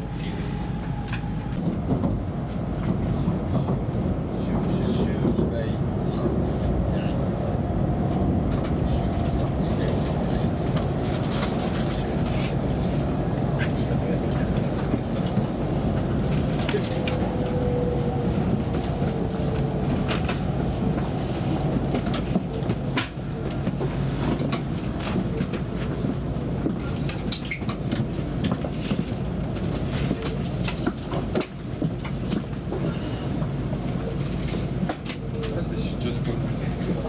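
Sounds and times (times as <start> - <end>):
train interior rumble and hum: 0.0 - 37.0.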